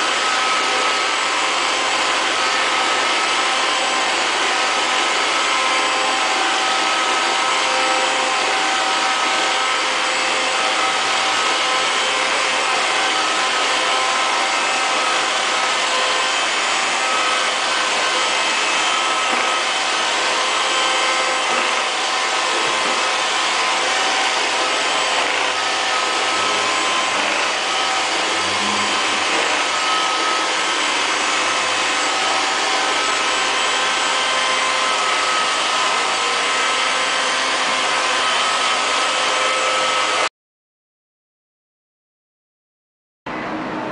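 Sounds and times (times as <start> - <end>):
robot vacuum cleaner running: 0.0 - 40.3.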